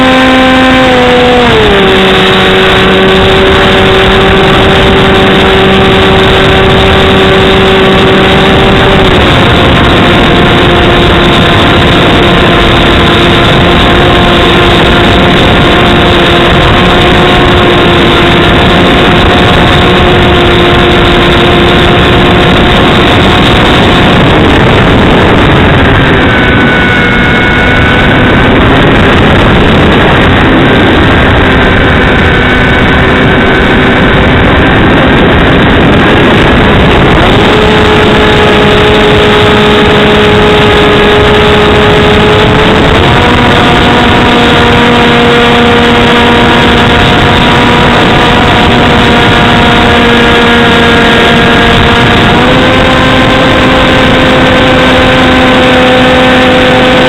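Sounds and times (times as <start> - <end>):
electric propeller motor whine: 0.0 - 57.0
wind rush on microphone: 0.0 - 57.0.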